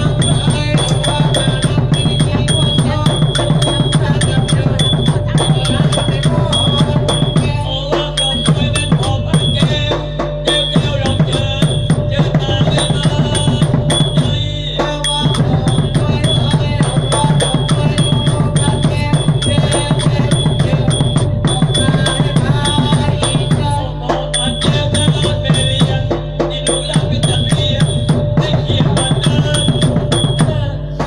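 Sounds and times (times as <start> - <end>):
fast dense drumming: 0.0 - 31.0
high ringing strikes: 0.0 - 31.0.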